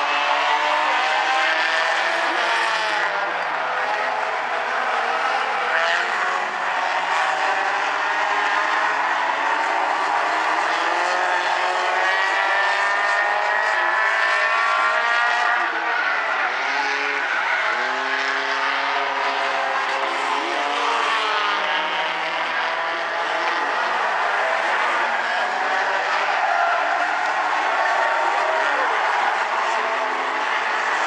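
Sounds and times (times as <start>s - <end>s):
race car engines at high revs: 0.0s - 31.0s.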